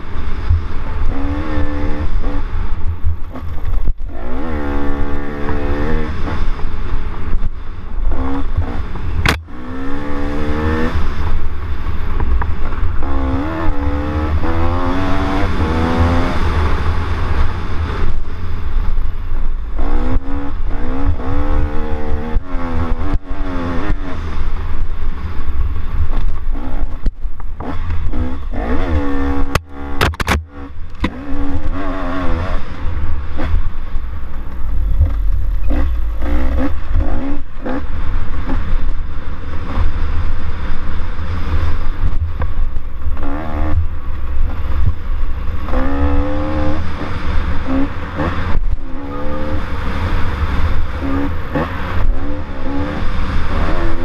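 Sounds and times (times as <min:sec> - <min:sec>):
atv engine revving: 0:00.0 - 0:54.0
wind rumble on microphone: 0:00.0 - 0:54.0.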